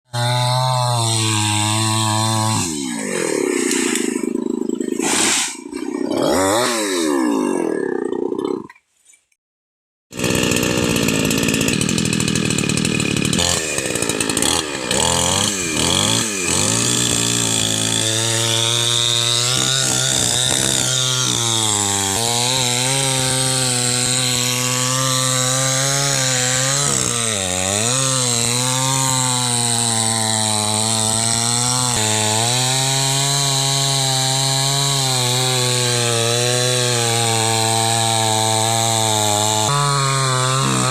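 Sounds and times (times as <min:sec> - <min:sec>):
chainsaw cutting wood: 0:00.1 - 0:08.6, 0:10.1 - 0:40.9.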